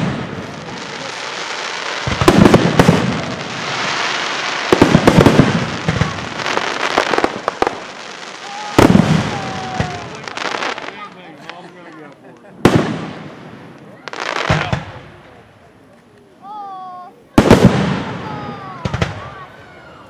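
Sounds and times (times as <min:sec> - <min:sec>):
fireworks booming: 0:00.0 - 0:11.7, 0:12.5 - 0:15.4, 0:17.3 - 0:19.5
fireworks crackling: 0:00.0 - 0:20.0.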